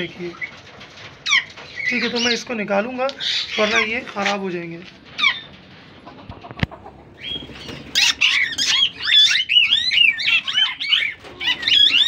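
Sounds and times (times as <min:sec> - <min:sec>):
parakeets squawking: 0:01.2 - 0:04.6, 0:05.2 - 0:12.0.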